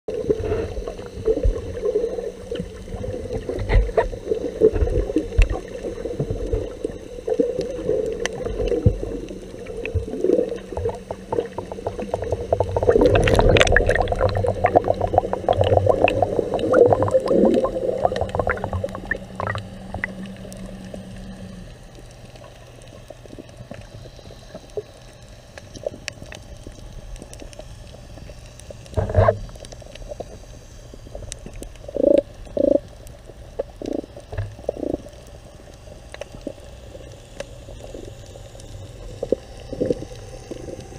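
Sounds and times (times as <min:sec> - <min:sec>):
underwater gurgling and bubbling: 0:00.1 - 0:40.9.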